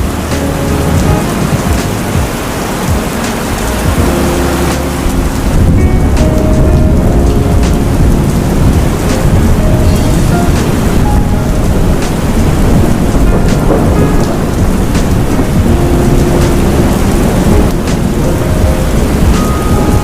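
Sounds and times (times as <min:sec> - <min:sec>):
heavy rain pouring: 0:00.0 - 0:20.0
thunder rumbling: 0:00.0 - 0:20.0.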